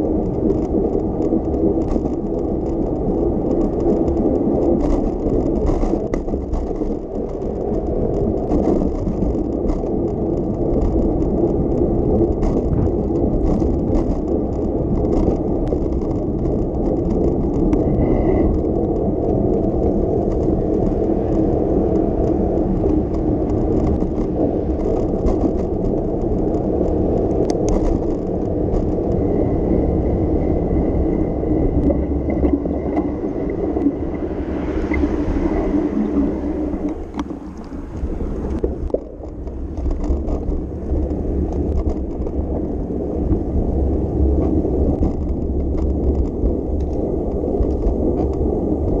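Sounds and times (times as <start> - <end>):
bicycle rattles and clicks: 0.0 - 49.0
bicycle tyres on pavement: 0.0 - 49.0.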